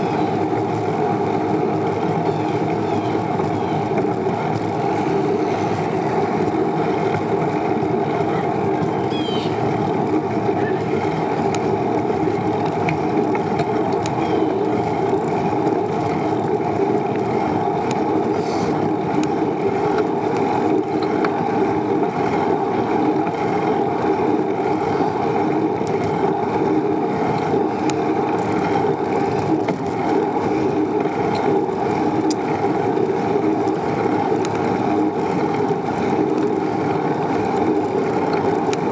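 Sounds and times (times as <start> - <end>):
bicycle tyres rolling on pavement: 0.0 - 38.9
wind on microphone: 0.0 - 38.9.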